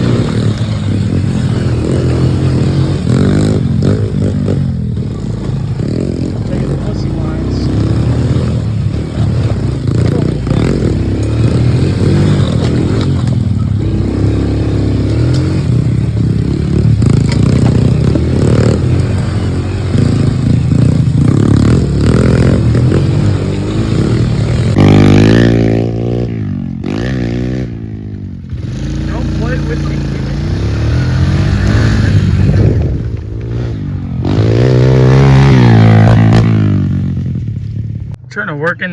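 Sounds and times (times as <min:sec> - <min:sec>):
motorbike engine revving: 0:00.0 - 0:38.2.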